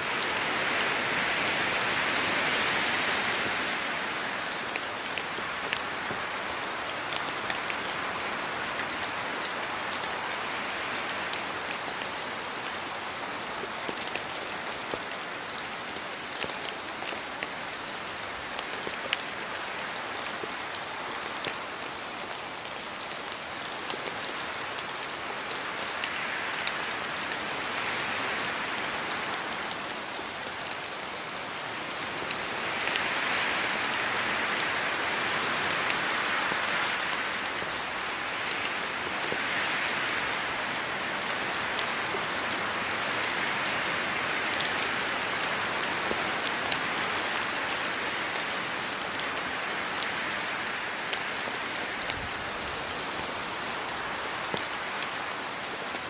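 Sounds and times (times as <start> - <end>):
steady rain with ticking drops: 0.0 - 56.0.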